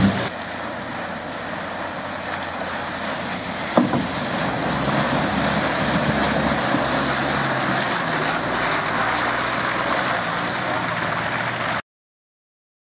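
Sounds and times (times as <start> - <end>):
truck engine at low revs: 0.0 - 11.8
tyres rushing through mud: 0.0 - 11.8.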